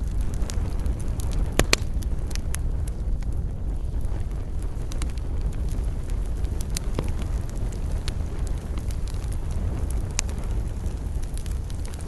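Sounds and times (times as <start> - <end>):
campfire crackling: 0.0 - 12.0
low steady rumble: 0.0 - 12.0.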